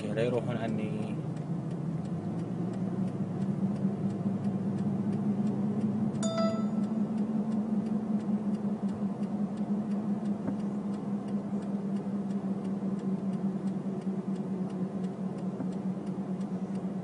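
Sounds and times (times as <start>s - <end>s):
car indicator ticking: 0.0s - 17.0s
engine and road hum: 0.0s - 17.0s.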